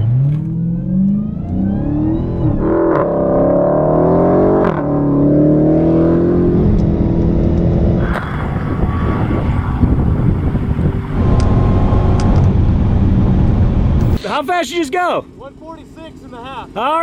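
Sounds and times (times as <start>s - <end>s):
car engine at full throttle: 0.0s - 17.0s.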